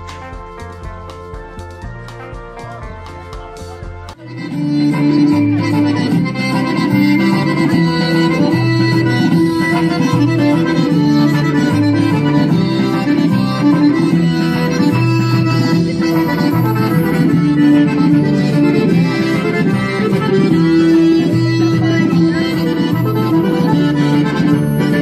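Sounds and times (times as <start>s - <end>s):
accordion-led traditional music: 0.0s - 25.0s
bass line: 0.0s - 25.0s.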